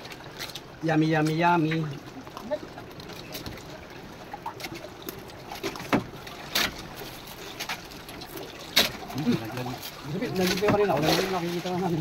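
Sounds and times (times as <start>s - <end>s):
water lapping around boat: 0.0s - 12.0s.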